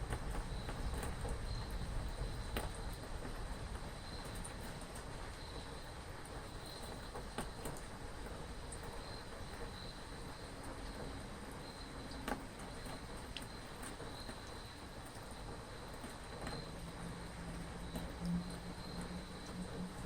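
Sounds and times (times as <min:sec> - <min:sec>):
rain hiss: 0:00.0 - 0:20.0
sharp water drips: 0:00.2 - 0:20.0
crickets trilling: 0:00.3 - 0:20.0.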